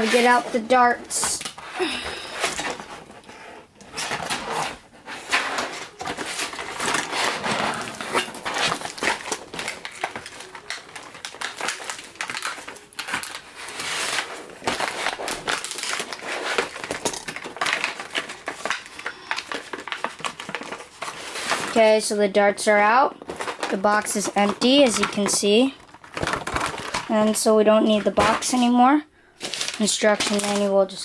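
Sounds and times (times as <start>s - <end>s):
packaging rustling and crinkling: 0.0s - 22.0s, 22.7s - 31.0s.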